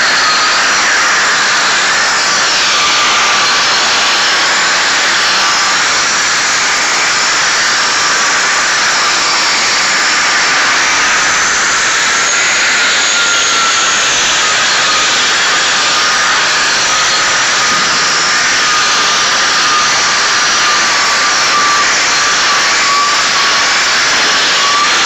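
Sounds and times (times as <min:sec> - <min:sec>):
power sander grinding concrete: 0:00.0 - 0:25.0.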